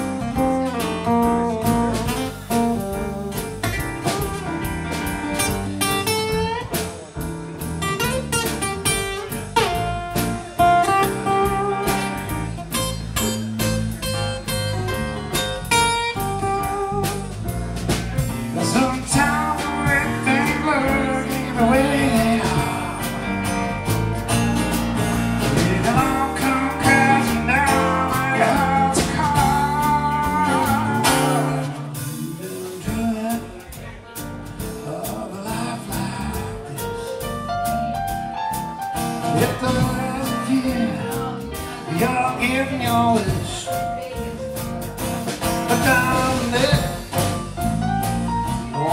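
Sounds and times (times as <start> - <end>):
acoustic guitar: 0.0 - 48.9
jazz blues band playing: 0.0 - 48.9.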